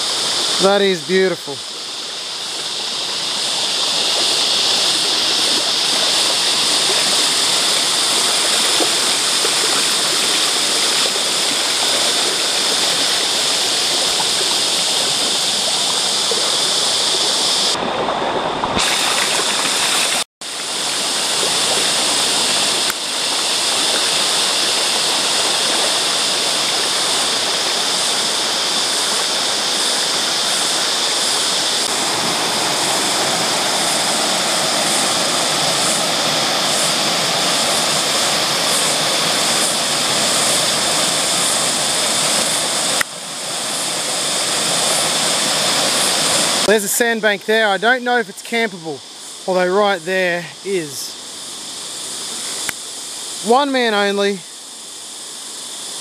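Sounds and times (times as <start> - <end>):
creek water running over rocks: 0.0 - 55.0.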